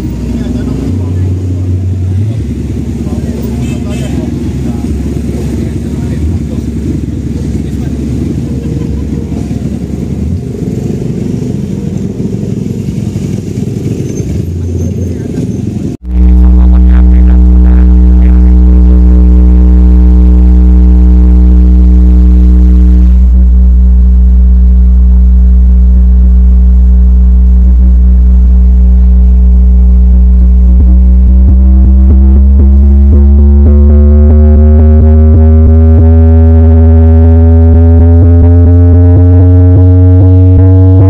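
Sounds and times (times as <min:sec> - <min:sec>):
electronic dance music: 0:00.0 - 0:12.4, 0:16.0 - 0:41.0
deep bass drone: 0:00.0 - 0:41.0
steady higher tones: 0:00.0 - 0:41.0.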